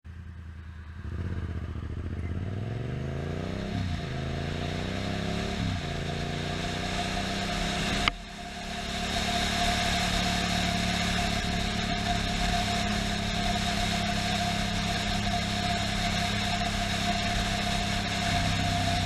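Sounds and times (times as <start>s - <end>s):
motorcycle engine accelerating: 0.1s - 19.0s.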